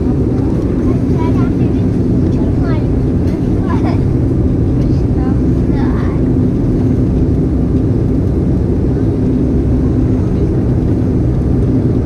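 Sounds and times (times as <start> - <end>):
airliner engines rumbling: 0.0 - 12.0
constant low hum: 0.0 - 12.0.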